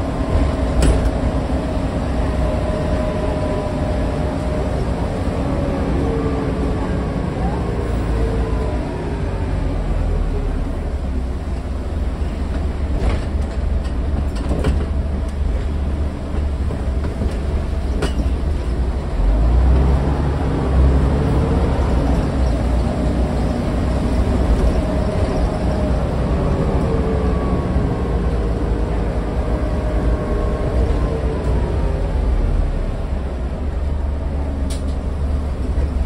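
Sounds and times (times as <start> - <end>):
bus diesel engine rumble: 0.0 - 36.0.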